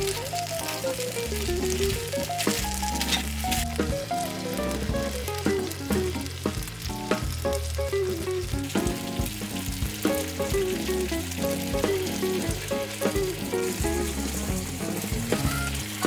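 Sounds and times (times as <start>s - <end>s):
background music: 0.0s - 16.0s
meat sizzling in a pan: 0.0s - 16.0s.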